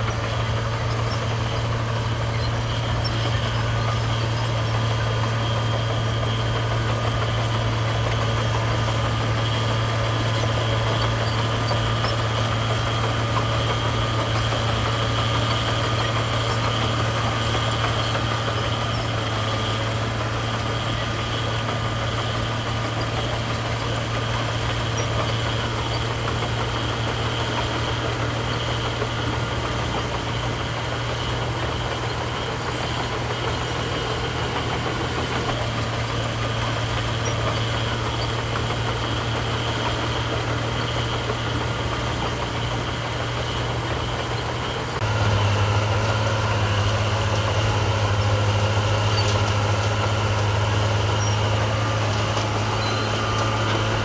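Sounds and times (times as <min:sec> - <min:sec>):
diesel engine low drone: 0:00.0 - 0:54.0.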